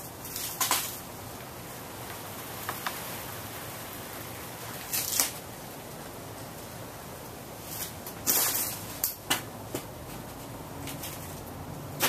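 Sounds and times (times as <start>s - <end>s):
ceiling fan airy hiss: 0.0s - 12.0s.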